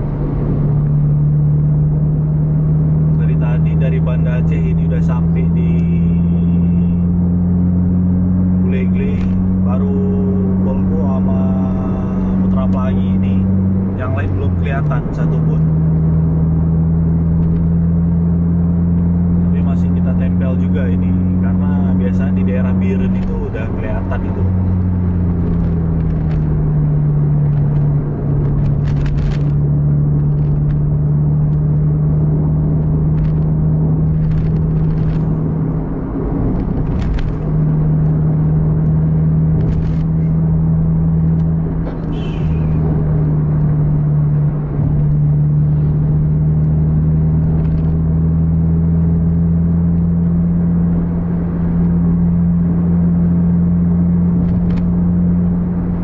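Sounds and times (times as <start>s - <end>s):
car cabin highway drone: 0.0s - 56.0s.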